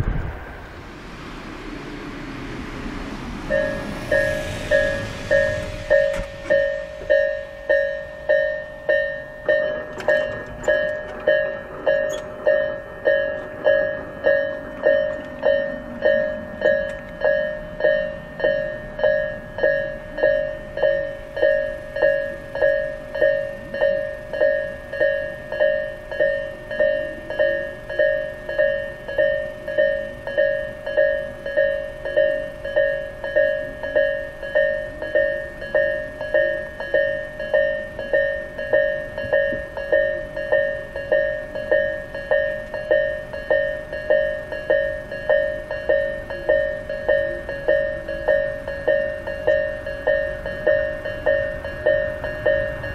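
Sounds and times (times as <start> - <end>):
level crossing warning bell ringing: 3.5 - 52.9.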